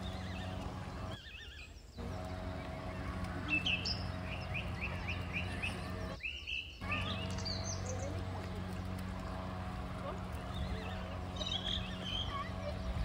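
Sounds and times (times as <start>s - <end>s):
steady low hum: 0.0s - 1.2s, 2.0s - 6.2s, 6.8s - 13.0s.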